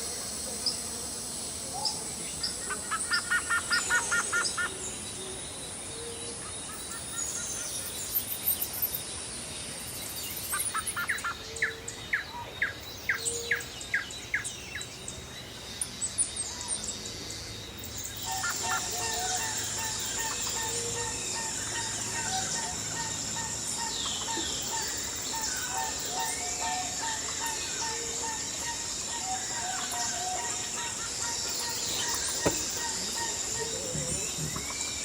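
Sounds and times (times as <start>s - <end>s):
birds chirping: 1.6s - 35.0s.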